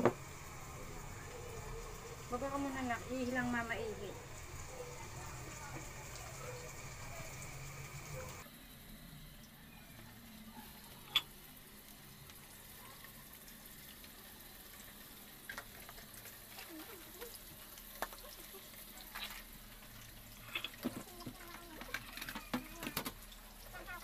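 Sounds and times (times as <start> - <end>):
pork sizzling in oil: 0.0 - 24.0.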